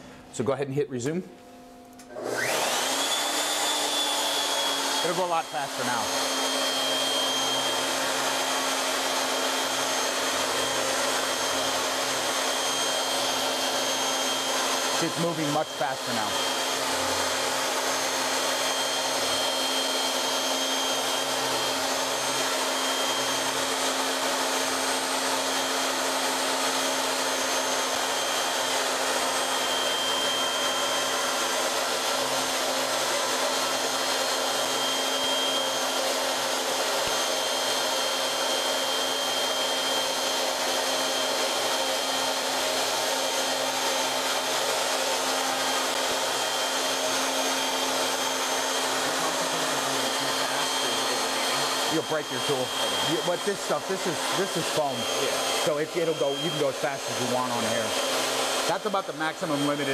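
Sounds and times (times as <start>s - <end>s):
router spindle cutting foam: 2.1s - 59.9s.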